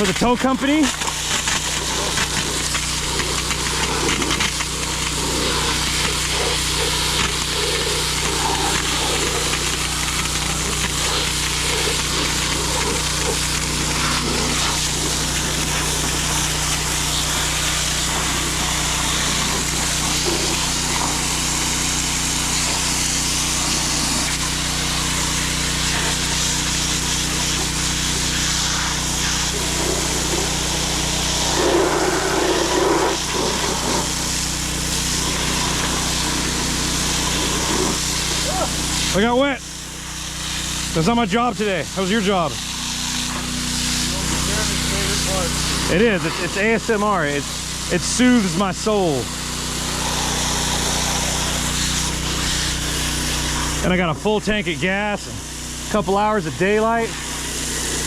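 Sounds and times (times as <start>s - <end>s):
water pump engine running: 0.0s - 58.0s
water spraying from hose: 0.0s - 58.0s.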